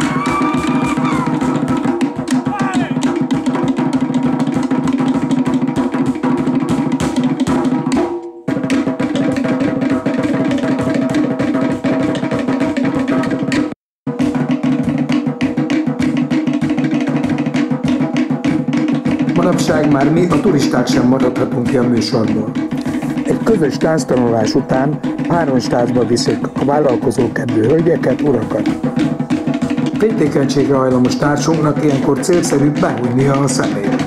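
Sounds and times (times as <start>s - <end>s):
fast drumming: 0.0s - 34.0s.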